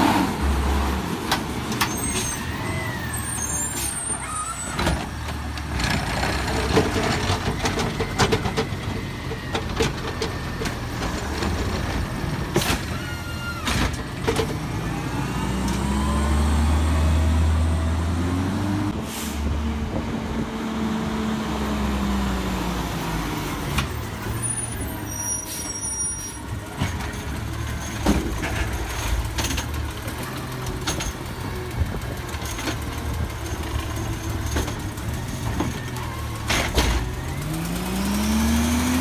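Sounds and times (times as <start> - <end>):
garbage truck engine revving: 0.0 - 39.0.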